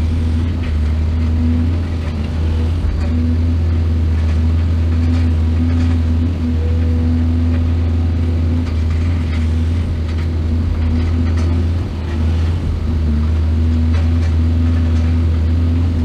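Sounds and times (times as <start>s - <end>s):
excavator diesel engine drone: 0.0s - 16.0s.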